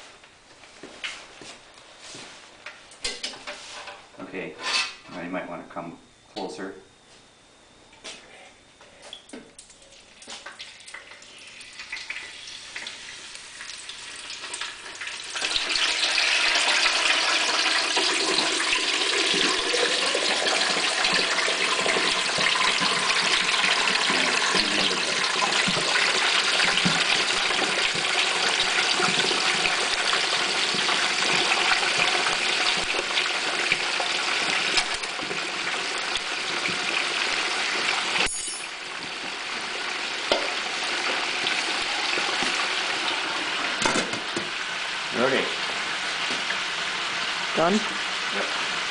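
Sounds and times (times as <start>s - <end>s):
hot oil sizzling and bubbling: 9.2s - 48.9s.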